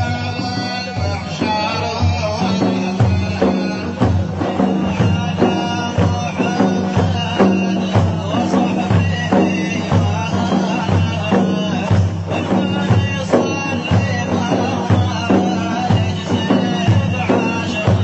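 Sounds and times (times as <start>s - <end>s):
folk music with drum beat: 0.0s - 18.0s.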